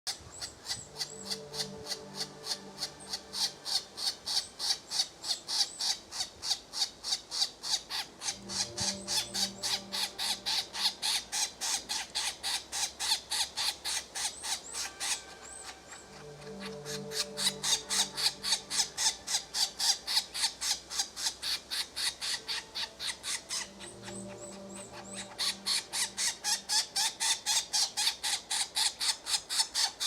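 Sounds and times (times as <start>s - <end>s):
woodpecker calling harsh notes: 0.1s - 30.0s.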